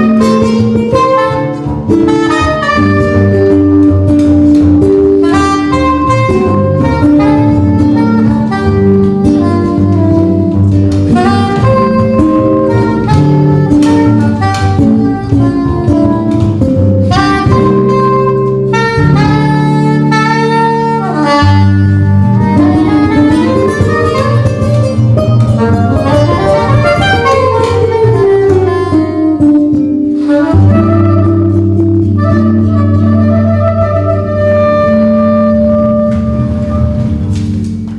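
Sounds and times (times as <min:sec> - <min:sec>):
low bass line: 0:00.0 - 0:37.9
sliding melody line: 0:00.0 - 0:37.9.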